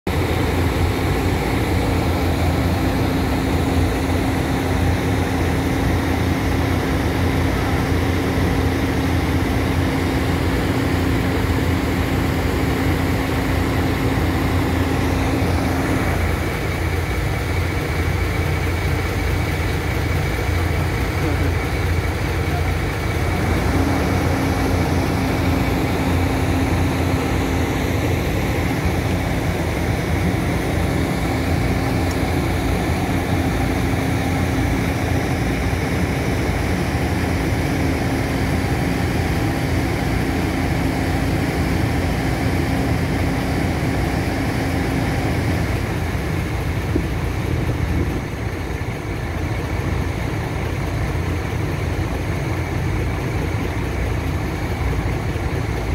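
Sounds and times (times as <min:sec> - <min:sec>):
excavator diesel engine running: 0:00.0 - 0:55.9
higher hum: 0:00.1 - 0:47.0.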